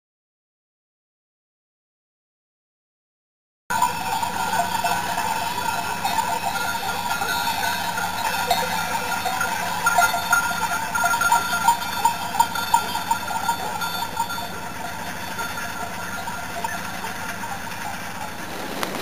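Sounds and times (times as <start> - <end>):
sheep bells clanking: 3.7 - 19.0.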